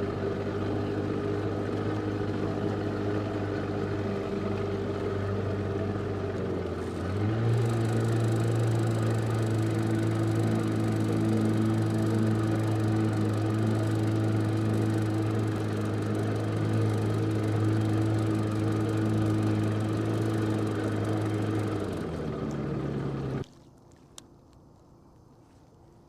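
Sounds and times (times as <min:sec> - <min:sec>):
engine running: 0:00.0 - 0:23.5.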